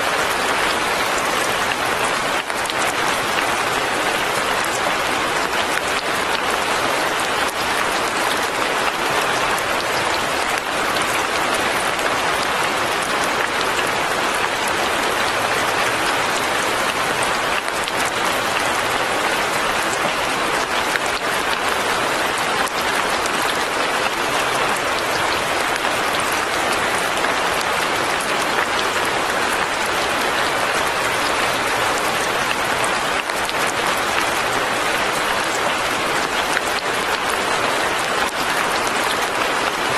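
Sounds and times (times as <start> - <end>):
fine rain pattering: 0.0 - 39.9.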